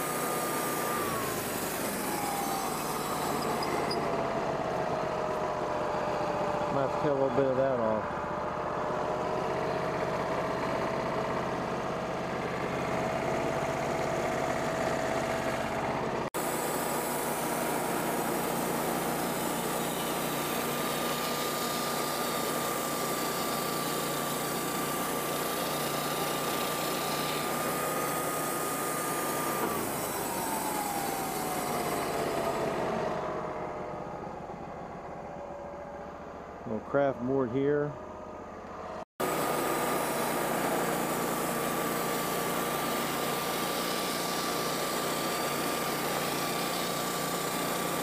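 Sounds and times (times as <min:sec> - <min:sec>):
high even saw whine: 0:00.0 - 0:10.8, 0:16.4 - 0:48.0
band sawmill sawing log: 0:00.0 - 0:34.9, 0:38.9 - 0:48.0
engine humming: 0:00.0 - 0:43.9.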